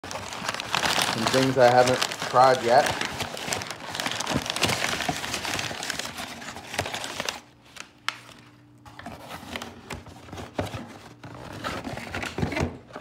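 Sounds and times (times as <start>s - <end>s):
packing paper crinkling: 0.0s - 12.5s.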